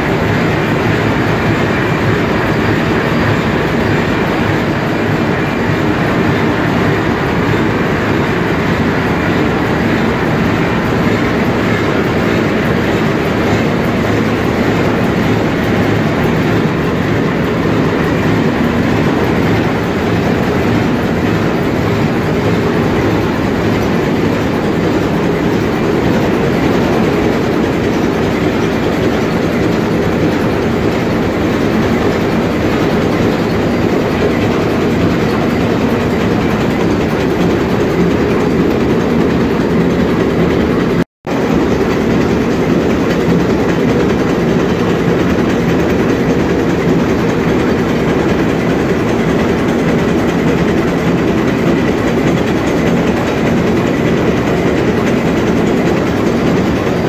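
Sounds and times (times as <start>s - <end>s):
marine diesel engine running: 0.0s - 57.0s.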